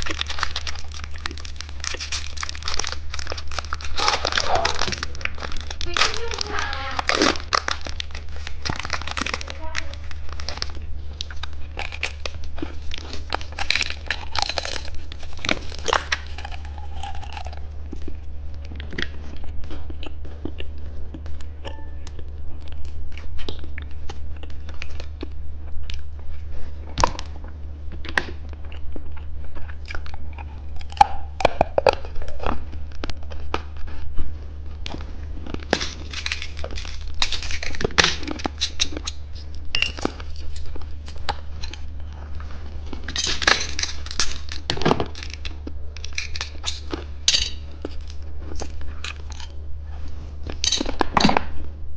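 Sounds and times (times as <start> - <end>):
wrappers crinkling and tearing: 0.0 - 20.1, 29.3 - 51.6
candy crunching and chewing: 0.0 - 51.9
steady low hum: 0.0 - 51.9.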